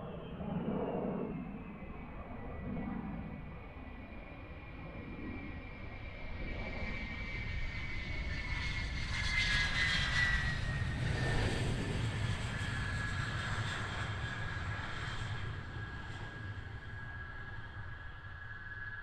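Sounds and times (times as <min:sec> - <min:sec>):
jet engines roaring with whine: 0:00.0 - 0:19.0.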